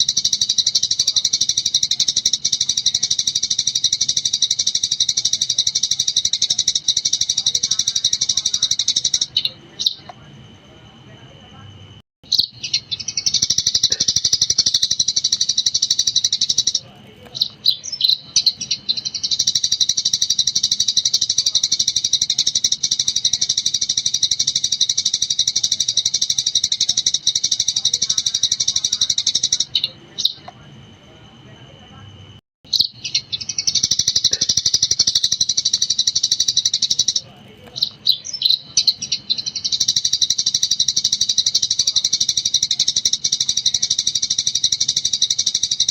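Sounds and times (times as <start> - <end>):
sparrow chirps: 0.0 - 10.3, 12.2 - 30.7, 32.7 - 45.9
sparrow chattering song: 0.0 - 10.6, 12.2 - 31.0, 32.7 - 45.9.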